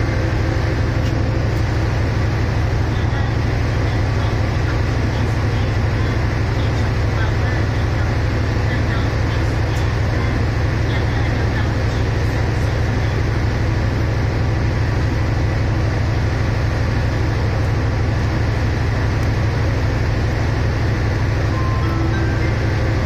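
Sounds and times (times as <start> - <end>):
diesel train engine idling: 0.0 - 23.0.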